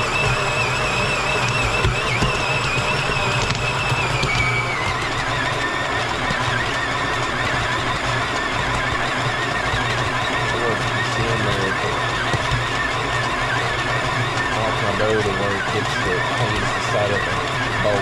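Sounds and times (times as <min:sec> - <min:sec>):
electric mixer motor whine: 0:00.0 - 0:18.0.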